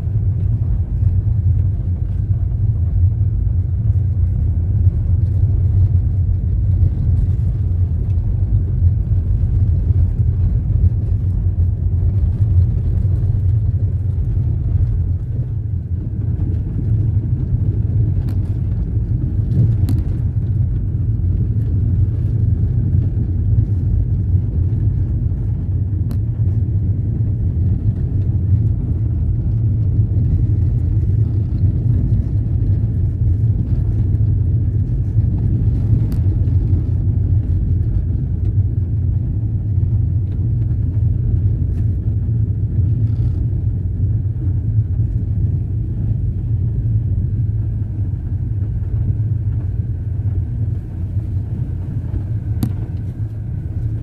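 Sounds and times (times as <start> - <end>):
vehicle driving on dirt road: 0.0 - 54.0.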